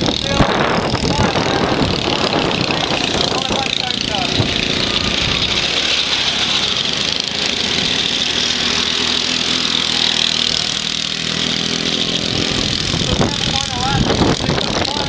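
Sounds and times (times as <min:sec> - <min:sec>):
racing lawnmower engines: 0:00.0 - 0:15.0.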